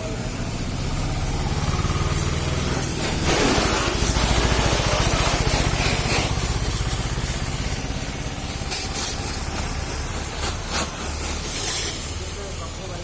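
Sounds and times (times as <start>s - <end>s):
pump pulsing: 0.0s - 13.0s
water spray hissing: 0.1s - 13.0s.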